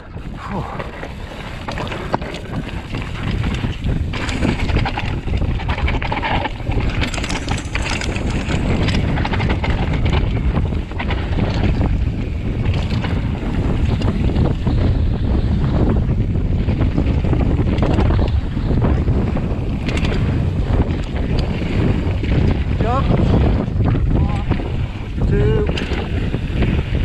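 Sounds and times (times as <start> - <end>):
bike rattling over rocks: 0.0 - 27.0
wind buffeting microphone: 0.0 - 27.0.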